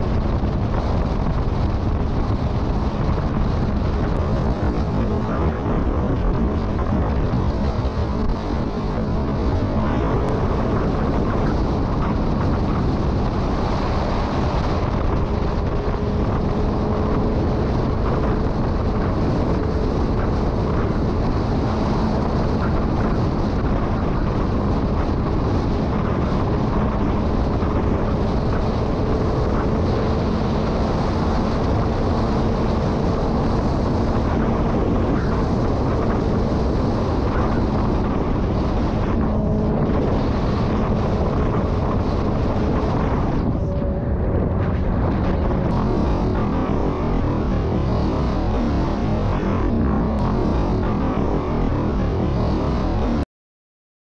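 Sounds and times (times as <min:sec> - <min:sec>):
motorcycle engine cruising: 0:00.0 - 0:49.2
wind on microphone: 0:00.0 - 0:53.2.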